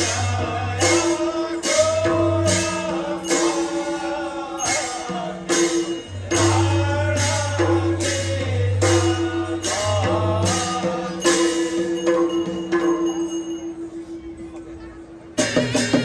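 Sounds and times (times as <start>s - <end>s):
crisp percussion strikes: 0.0s - 16.0s.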